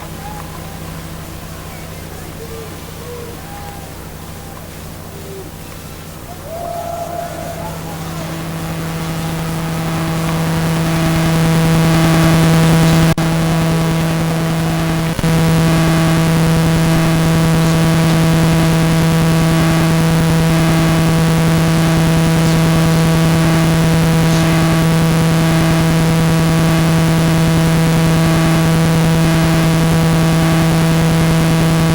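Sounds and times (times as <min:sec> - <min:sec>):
loud electronic hum: 0:00.0 - 0:31.9.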